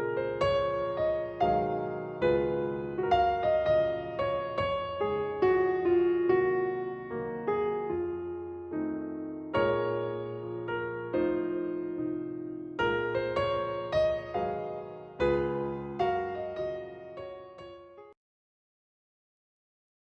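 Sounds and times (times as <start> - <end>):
gentle piano melody: 0.0 - 18.2.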